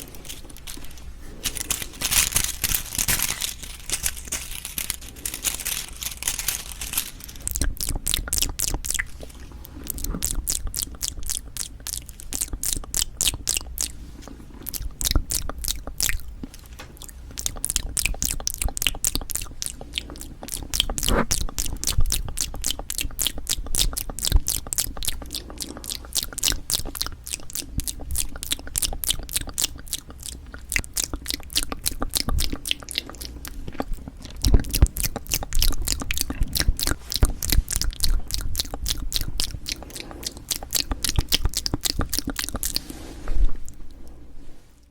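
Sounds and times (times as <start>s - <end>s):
chewing clicks: 0.0s - 42.9s.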